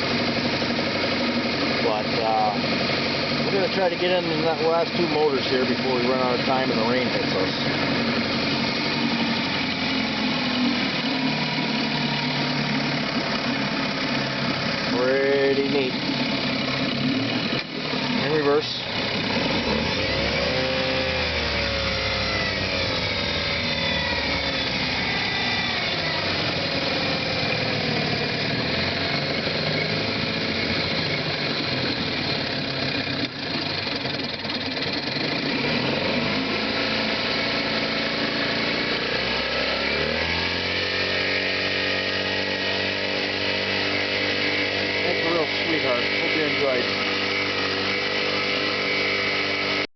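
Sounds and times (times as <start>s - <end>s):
outboard motor running: 0.0s - 49.9s.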